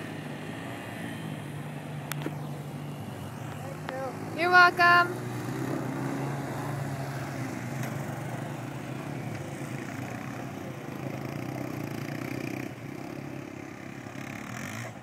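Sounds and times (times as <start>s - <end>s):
atv engines running: 0.0s - 15.0s.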